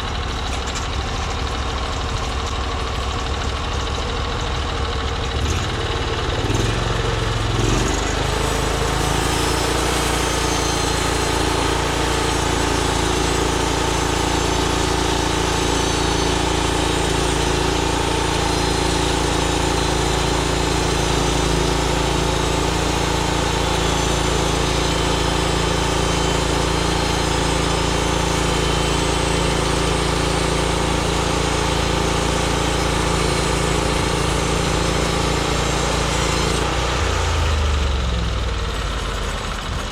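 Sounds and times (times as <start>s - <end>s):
bandsaw mill gas engine running: 0.0s - 39.9s.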